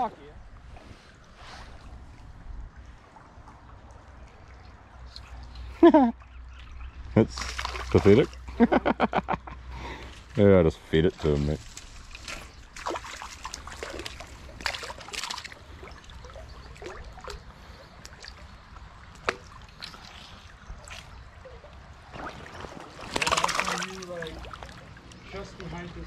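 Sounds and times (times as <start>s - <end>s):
shallow stream trickling and splashing: 0.0s - 8.7s, 10.0s - 26.0s.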